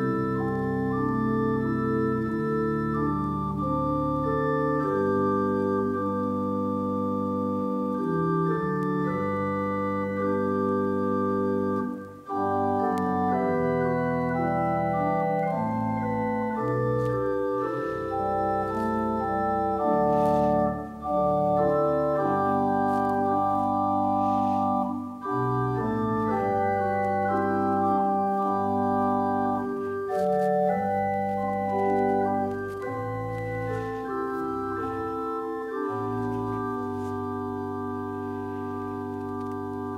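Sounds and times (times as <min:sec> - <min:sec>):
organ playing held chords: 0:00.0 - 0:39.9.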